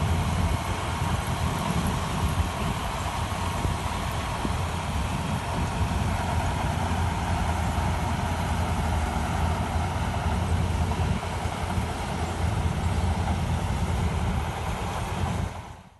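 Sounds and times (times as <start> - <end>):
faint steady whine: 0.0 - 15.9
heavy engine running: 0.0 - 15.9.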